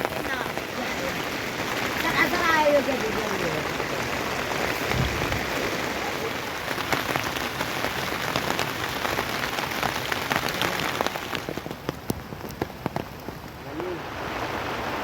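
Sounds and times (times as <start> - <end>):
raindrops striking surfaces: 0.0 - 15.0
steady rain falling: 0.0 - 15.0.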